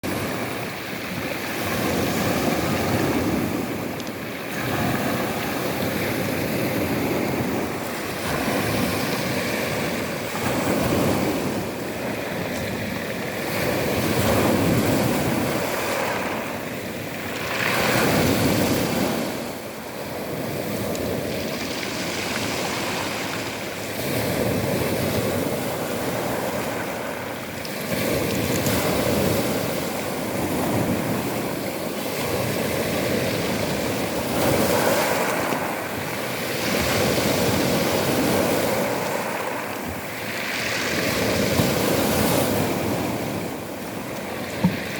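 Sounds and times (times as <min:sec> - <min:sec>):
storm waves breaking: 0:00.0 - 0:44.9
wind on microphone: 0:00.0 - 0:44.9.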